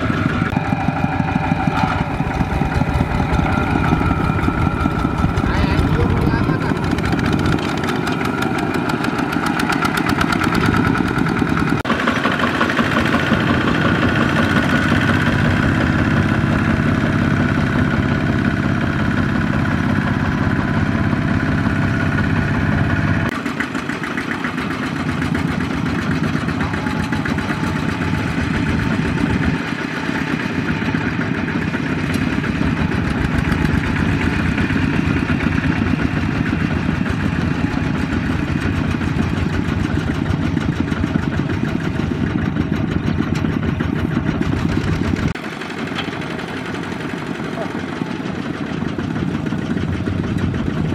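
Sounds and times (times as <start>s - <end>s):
diesel tractor engines running: 0.0s - 50.9s.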